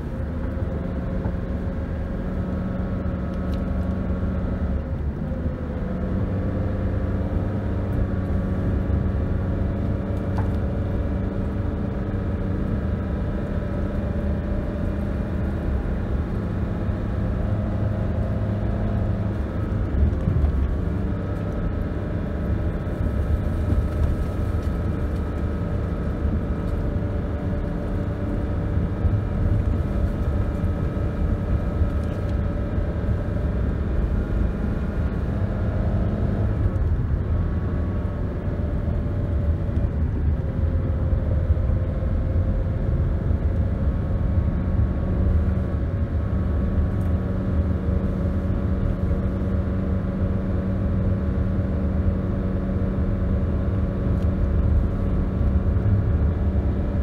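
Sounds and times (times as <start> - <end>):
car engine and tyre drone: 0.0 - 57.0.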